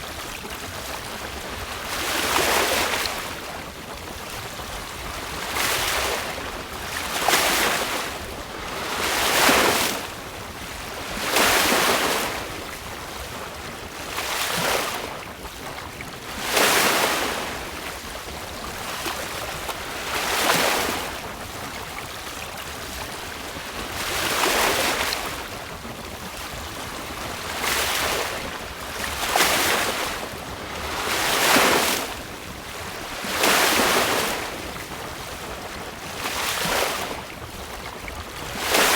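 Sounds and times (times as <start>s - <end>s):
seawater splashing along a hull: 0.0s - 38.9s.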